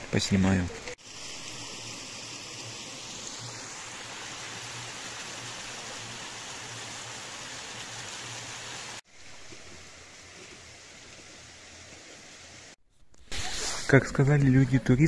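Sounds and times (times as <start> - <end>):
stream rushing over rocks: 0.6 - 12.7.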